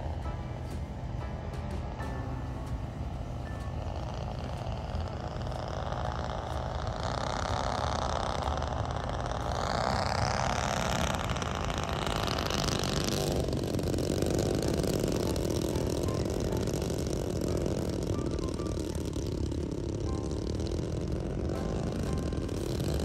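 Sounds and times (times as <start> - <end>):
model plane engines: 0.0 - 23.0.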